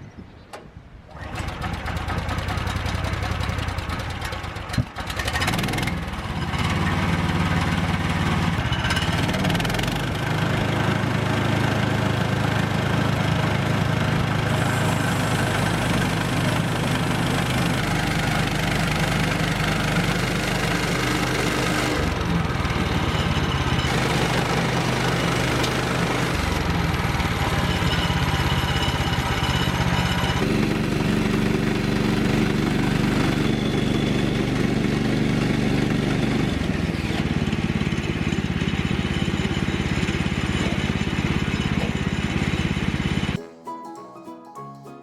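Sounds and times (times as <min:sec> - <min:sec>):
small gasoline engine running: 0:01.1 - 0:43.4.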